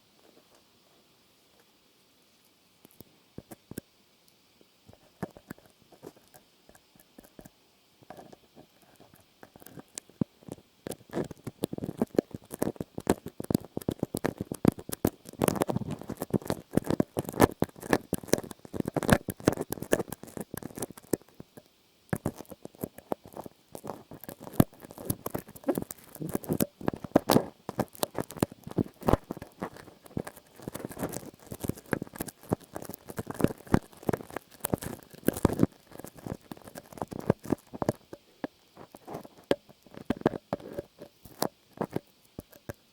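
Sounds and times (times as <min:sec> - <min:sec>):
rapid crackling and scratching: 0:04.9 - 0:42.9.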